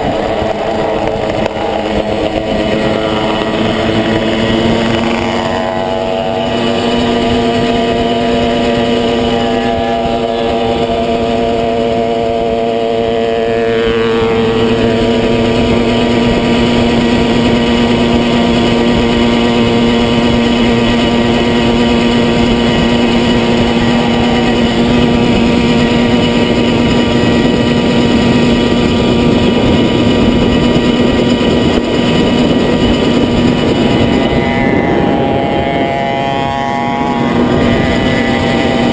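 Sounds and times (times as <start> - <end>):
motorcycle engine running: 0.0 - 38.9
rushing air: 0.0 - 38.9.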